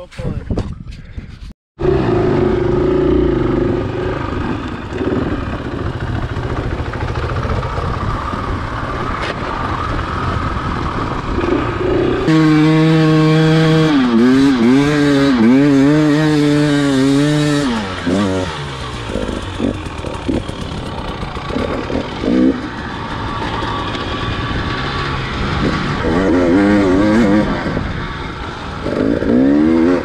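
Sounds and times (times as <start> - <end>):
dirt bike engine revving: 1.8 - 30.0.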